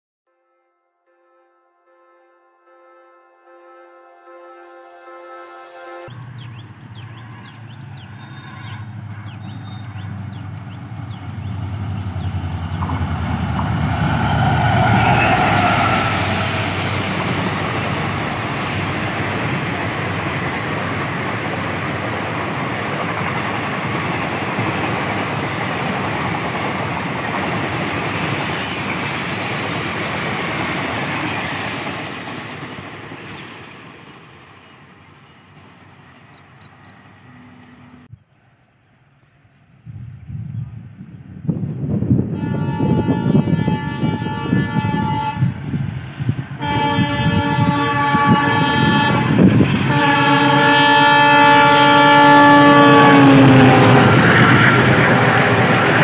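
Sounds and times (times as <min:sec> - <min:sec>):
diesel locomotive engine hum: 0:02.8 - 0:56.0
train wheels on rails: 0:06.4 - 0:38.1, 0:40.7 - 0:56.0.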